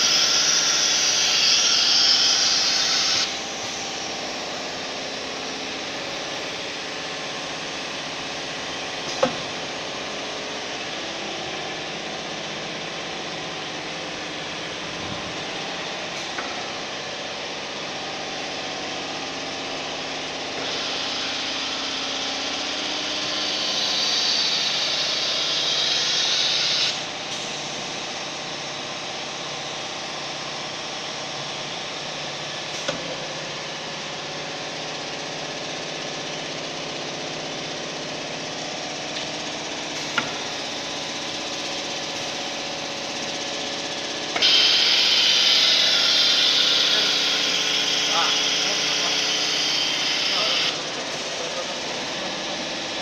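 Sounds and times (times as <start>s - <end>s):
router machinery humming: 0.0s - 53.0s.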